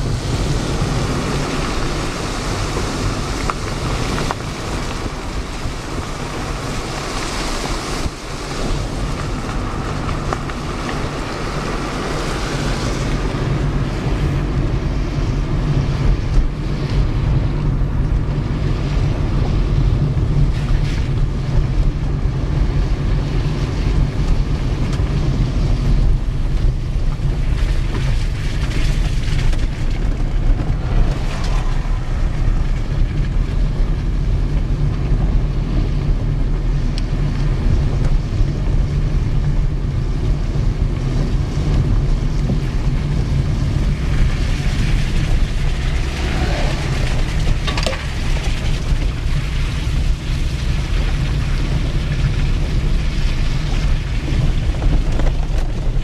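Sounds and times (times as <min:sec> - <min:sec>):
vehicle rumble from inside: 0:00.0 - 0:56.0
wind noise on microphone: 0:00.0 - 0:56.0.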